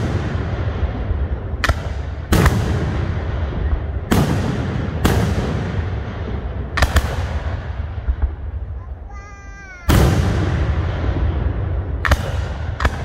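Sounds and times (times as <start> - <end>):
firework shells booming: 0.0 - 8.7, 9.6 - 13.0.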